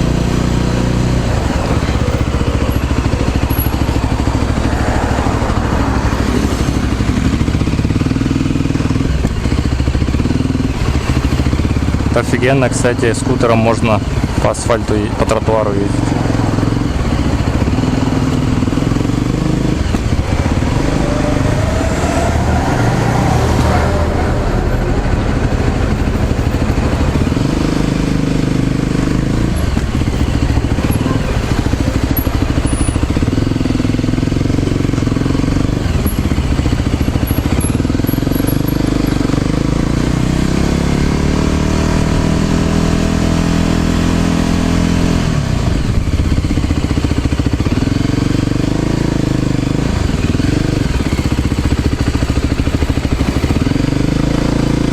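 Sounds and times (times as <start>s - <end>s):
small motorbike engine revving: 0.0s - 54.9s.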